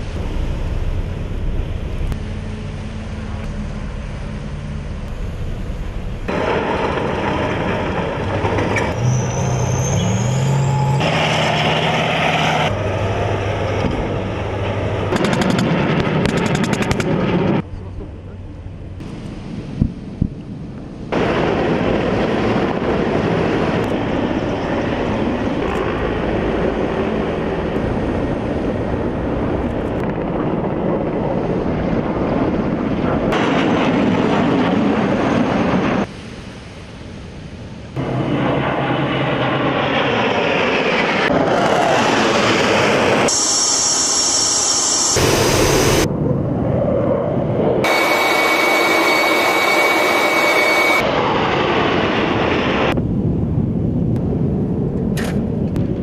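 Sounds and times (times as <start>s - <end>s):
high turbine whine: 0.0s - 55.0s
jet engine noise: 0.0s - 56.0s.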